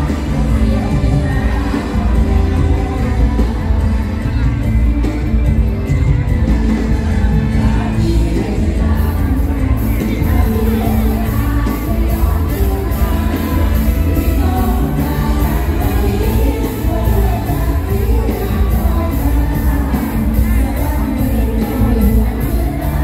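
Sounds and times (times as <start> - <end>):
live band music: 0.0 - 23.0
person singing: 0.0 - 23.0.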